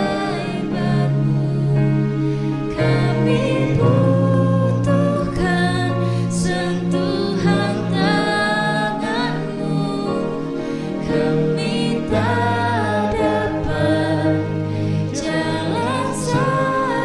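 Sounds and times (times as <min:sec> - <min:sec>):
sustained keyboard chords: 0:00.0 - 0:17.0
voices singing worship song: 0:00.0 - 0:17.0.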